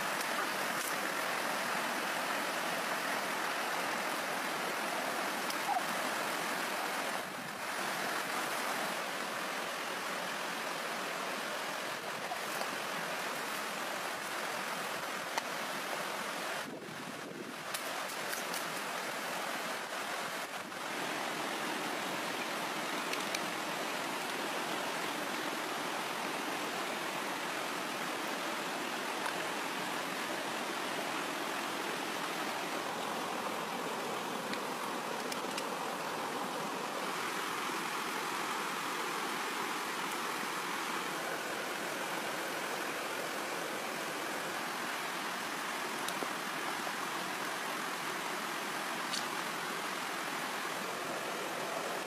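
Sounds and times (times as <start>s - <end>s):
creek running over rocks: 0.0s - 52.0s.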